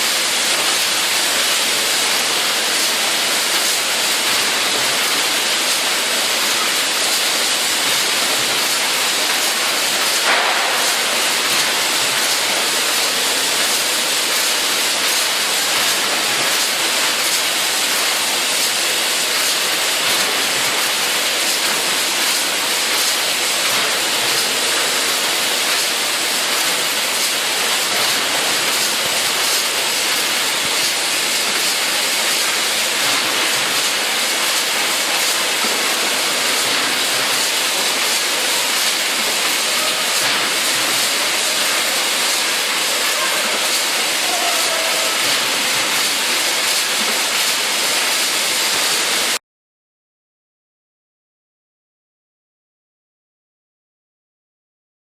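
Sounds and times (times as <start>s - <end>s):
packaging machinery hissing: 0.0s - 49.4s.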